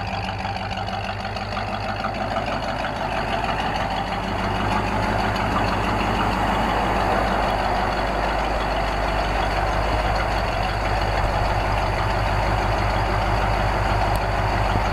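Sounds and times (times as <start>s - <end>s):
truck engine idling: 0.0s - 14.9s.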